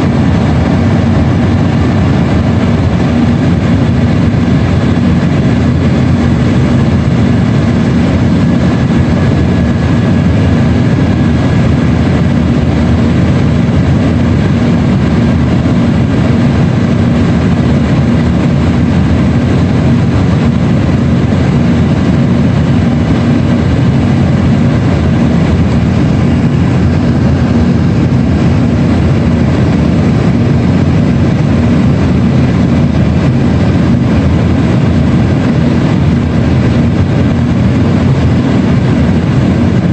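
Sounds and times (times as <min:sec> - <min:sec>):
jet engines and airflow rumble: 0:00.0 - 0:39.9
low steady hum: 0:00.0 - 0:39.9.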